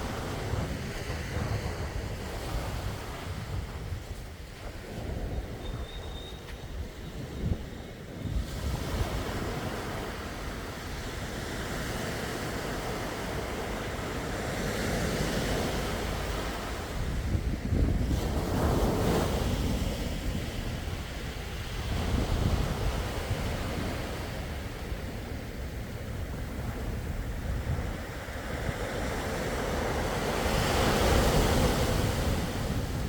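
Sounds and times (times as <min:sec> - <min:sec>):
sea waves washing ashore: 0:00.0 - 0:33.0
wind rumbling on microphone: 0:00.0 - 0:33.0.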